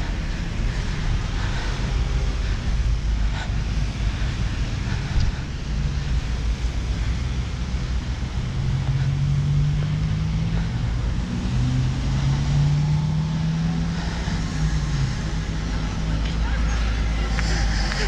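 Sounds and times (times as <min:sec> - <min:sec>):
vehicle engine hum: 0:00.0 - 0:18.0
wind rumble on microphone: 0:00.0 - 0:18.0.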